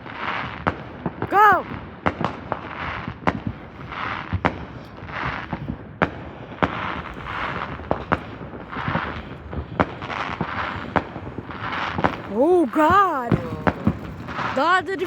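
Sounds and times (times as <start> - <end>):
fireworks bangs: 0.0 - 15.0
fireworks crackling hiss: 0.0 - 15.0.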